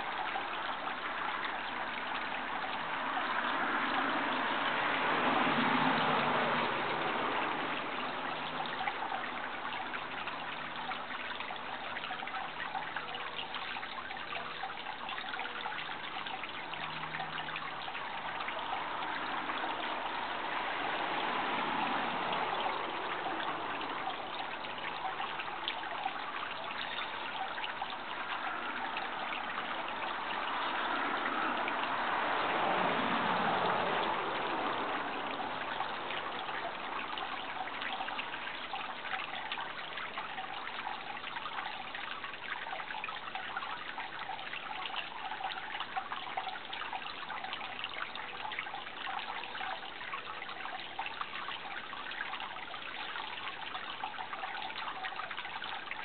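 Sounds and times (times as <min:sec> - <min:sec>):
stream trickling: 0:00.0 - 0:56.0.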